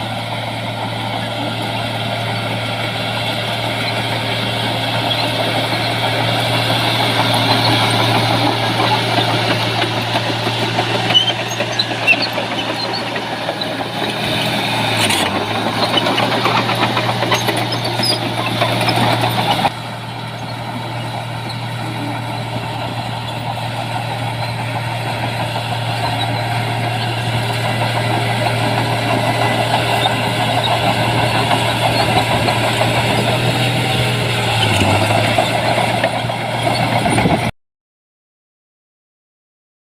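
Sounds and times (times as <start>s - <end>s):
heavy diesel engine humming: 0.0s - 37.5s.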